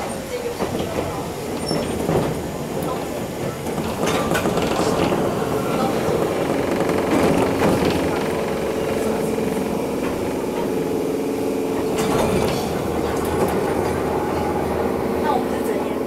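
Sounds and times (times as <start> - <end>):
electric train hum: 0.0 - 16.0
train wheels rumbling: 0.0 - 16.0.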